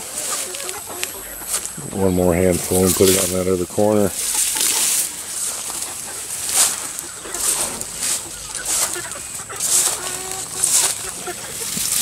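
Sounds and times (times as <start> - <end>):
chickens clucking faintly: 0.0 - 12.0
footsteps rustling through grass: 0.0 - 12.0.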